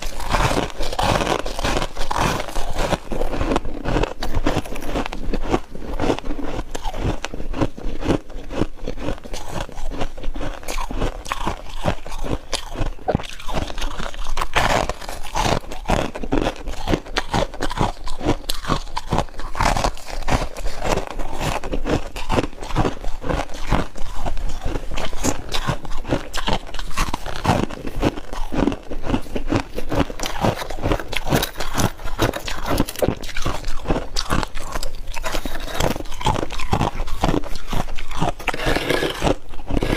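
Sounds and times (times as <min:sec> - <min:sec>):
person crunching frost: 0:00.0 - 0:39.9.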